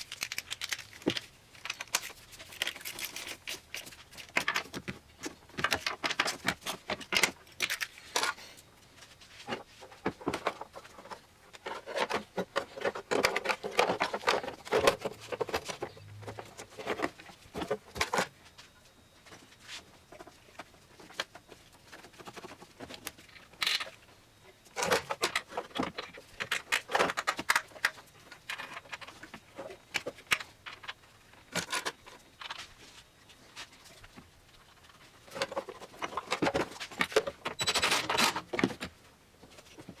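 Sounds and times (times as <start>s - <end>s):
clatter of hand tools and parts: 0.0s - 40.0s.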